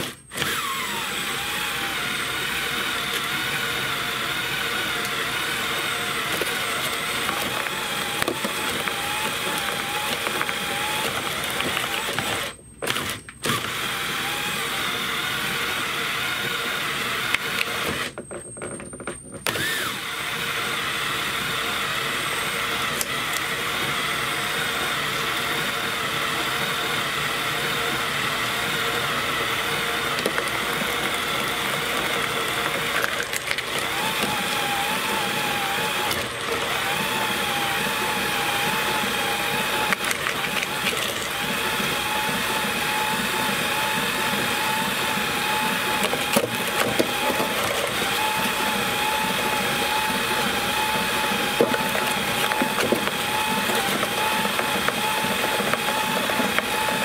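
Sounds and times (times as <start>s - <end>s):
electric motor running shredder: 0.0s - 18.2s, 19.4s - 57.0s.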